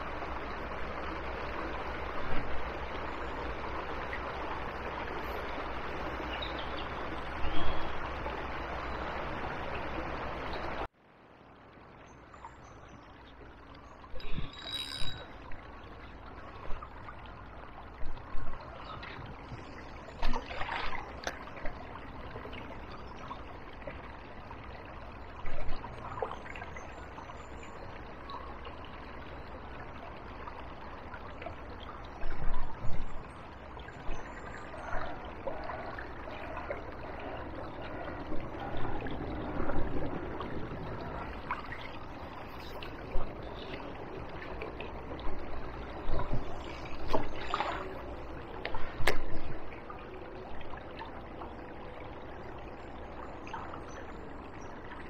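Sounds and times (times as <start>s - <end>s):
small river trickling: 0.0s - 55.0s.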